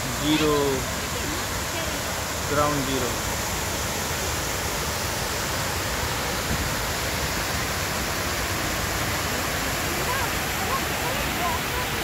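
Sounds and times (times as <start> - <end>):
water cascading into basin: 0.0 - 12.0.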